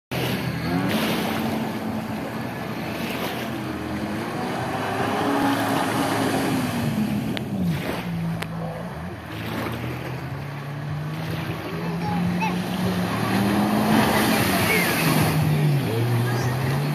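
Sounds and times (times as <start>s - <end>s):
jet ski engine revving: 0.1s - 16.9s.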